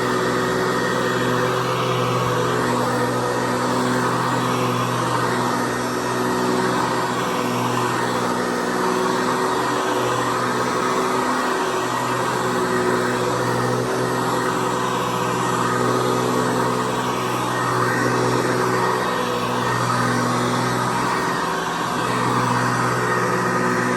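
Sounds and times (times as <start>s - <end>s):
vacuum cleaner running: 0.0s - 23.9s.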